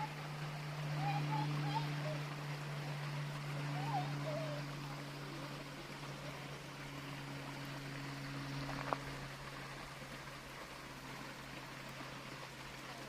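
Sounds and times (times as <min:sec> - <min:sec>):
low hum: 0:00.0 - 0:13.0
river water flowing: 0:00.0 - 0:13.0.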